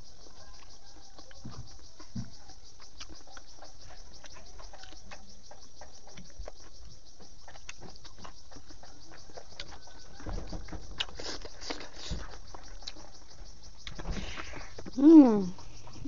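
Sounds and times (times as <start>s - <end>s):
insects chirping: 0.0s - 16.0s
soft chewing clicks: 0.1s - 10.2s, 10.8s - 15.0s.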